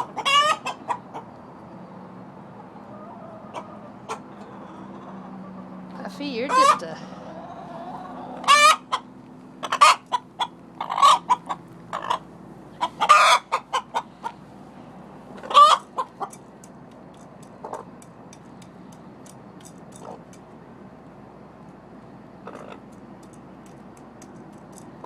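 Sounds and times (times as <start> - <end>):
chickens clucking and squawking: 0.0 - 20.8, 22.1 - 25.0.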